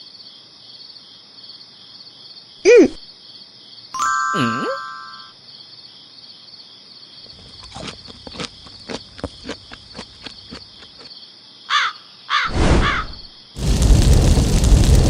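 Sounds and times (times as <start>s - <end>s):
crickets chirping: 0.0s - 3.9s, 5.3s - 15.0s.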